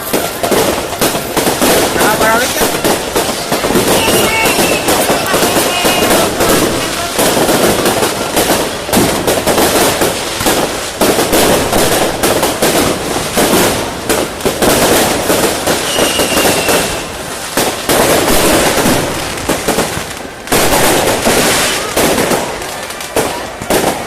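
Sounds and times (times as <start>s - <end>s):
firework whistle: 0.0s - 13.9s, 14.7s - 19.8s, 20.6s - 22.6s
fireworks bangs and crackling: 0.0s - 24.0s.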